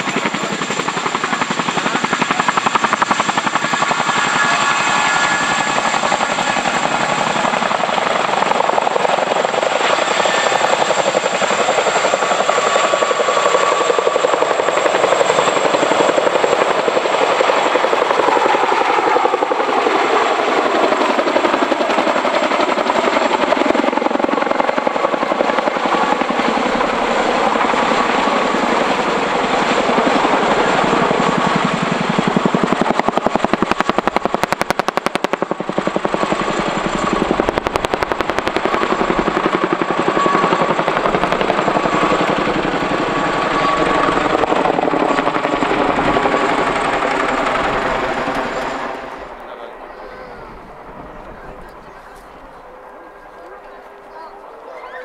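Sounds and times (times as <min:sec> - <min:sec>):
helicopter rotor beat: 0:00.0 - 0:55.0.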